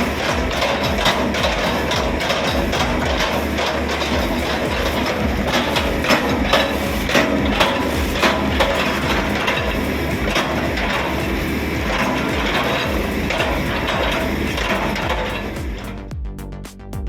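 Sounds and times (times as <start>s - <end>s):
engine hum: 0.0s - 16.9s.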